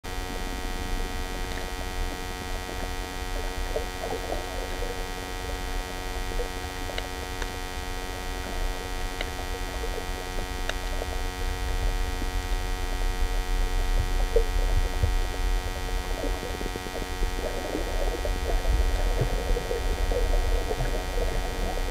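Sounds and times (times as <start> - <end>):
muffled underwater rumble: 0.1 - 21.9
steady multi-tone hum: 0.1 - 21.9.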